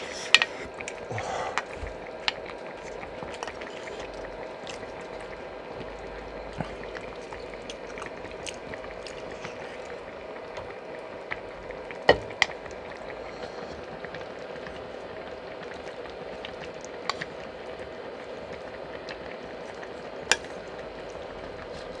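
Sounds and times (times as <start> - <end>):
soup boiling: 0.0 - 22.0.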